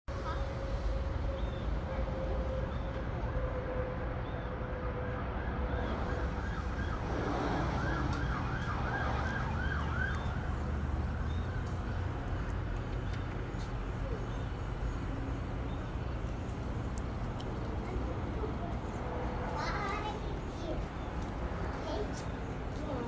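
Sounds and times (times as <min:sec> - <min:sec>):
steady low hum: 0:00.1 - 0:23.0.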